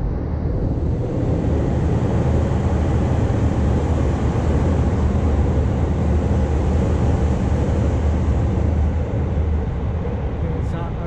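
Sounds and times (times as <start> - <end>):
train rumbling on bridge: 0.0 - 11.0.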